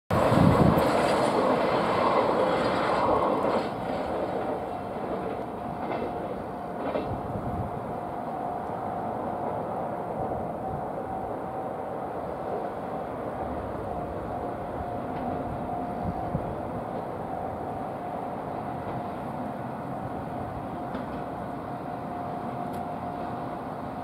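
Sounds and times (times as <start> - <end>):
freight train wagons rumbling past: 0.1 - 24.0.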